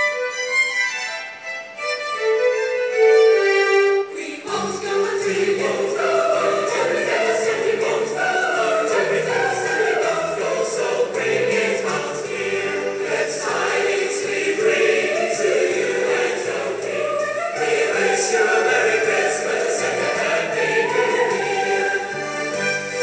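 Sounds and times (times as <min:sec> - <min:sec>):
instrumental melody: 0:00.0 - 0:23.0
choir singing: 0:03.9 - 0:23.0.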